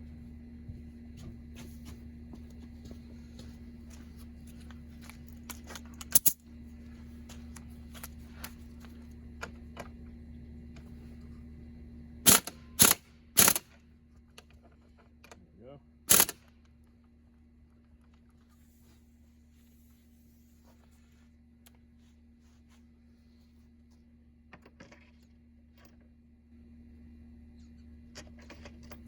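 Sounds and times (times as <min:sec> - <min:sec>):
steady hum: 0:00.0 - 0:24.5.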